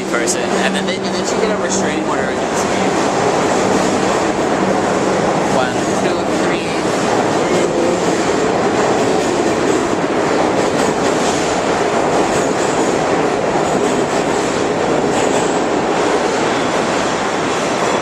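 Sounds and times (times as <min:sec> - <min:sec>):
subway train wheels clattering: 0:00.0 - 0:18.0.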